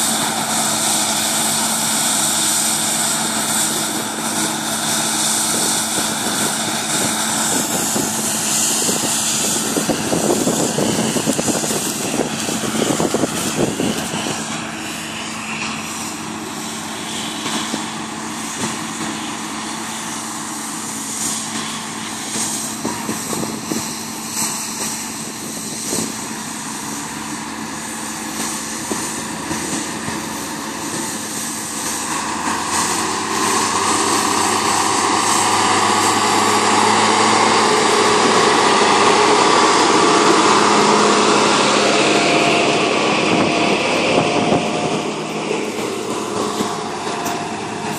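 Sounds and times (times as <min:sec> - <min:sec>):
combine harvester humming: 0:00.0 - 0:47.9
tractor diesel engine: 0:00.0 - 0:47.9.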